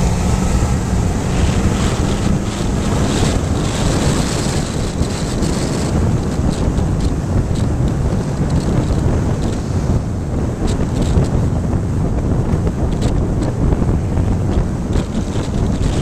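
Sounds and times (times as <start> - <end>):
pickup truck engine drone: 0.0 - 16.0
road noise: 0.0 - 16.0
wind buffeting microphone: 0.0 - 16.0.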